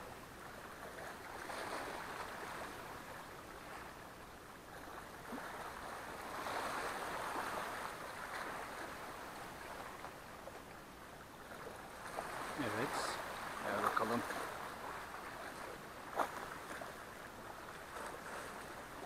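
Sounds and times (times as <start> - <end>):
small waves washing against shore: 0.0 - 19.0.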